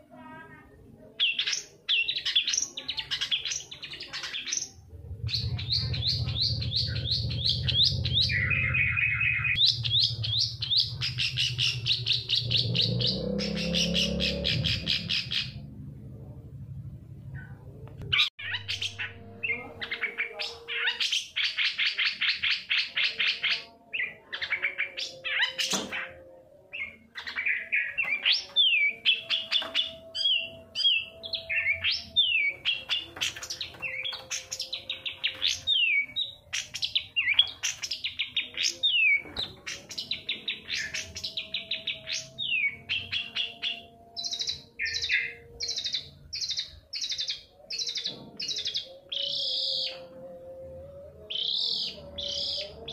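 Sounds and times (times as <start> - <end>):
bird singing trills and whistles: 1.2 - 15.6, 17.4 - 52.9.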